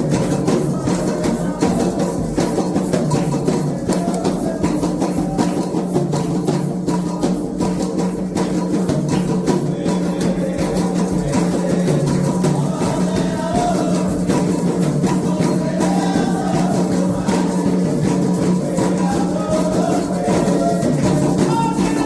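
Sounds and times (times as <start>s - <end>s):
hand drums beating rhythm: 0.0s - 22.0s
voices singing: 0.0s - 22.0s.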